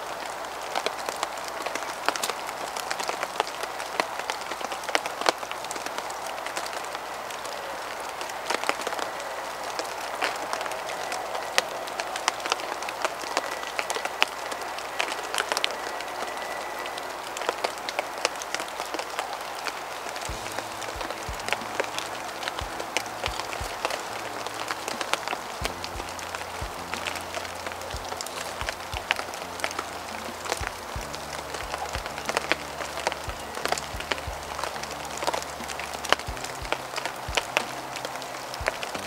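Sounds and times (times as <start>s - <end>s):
rain pattering in a forest: 0.0s - 39.0s.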